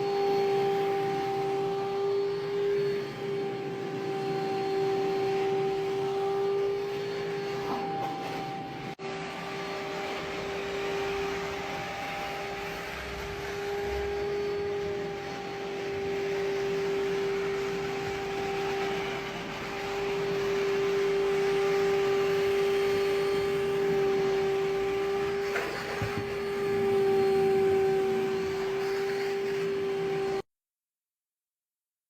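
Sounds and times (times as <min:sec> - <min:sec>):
electric motor whining: 0:00.0 - 0:30.4.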